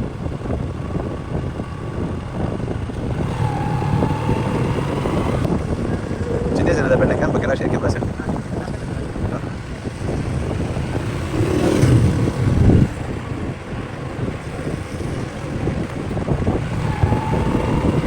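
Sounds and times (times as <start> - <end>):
motorcycle engine: 0.0 - 18.0
road noise: 0.0 - 18.0
wind rushing over microphone: 0.0 - 18.0.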